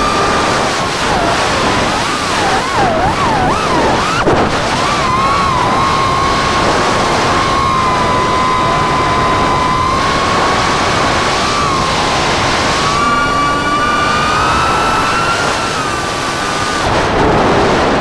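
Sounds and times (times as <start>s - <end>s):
quadcopter motors whining: 0.0s - 17.3s
rushing air noise: 0.0s - 18.0s.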